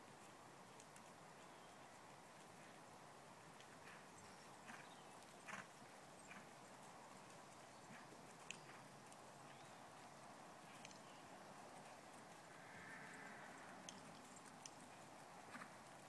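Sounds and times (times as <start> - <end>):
distant horse hoofbeats: 0.0 - 16.0.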